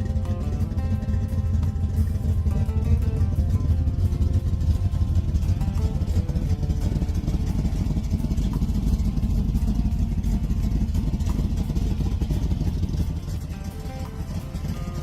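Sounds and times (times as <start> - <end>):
car engine running: 0.0 - 15.0
pulsing exhaust note: 0.0 - 15.0.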